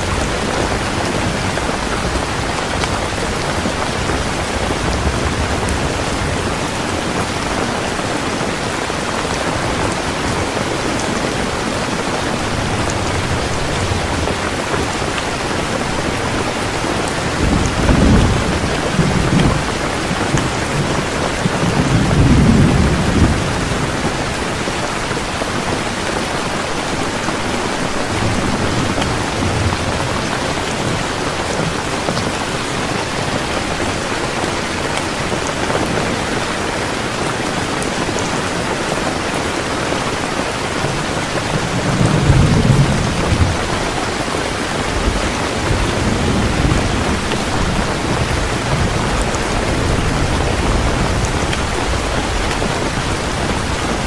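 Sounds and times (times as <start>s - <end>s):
thunder rumbling: 0.0s - 36.4s, 40.8s - 54.0s
heavy rain pouring: 0.0s - 54.0s.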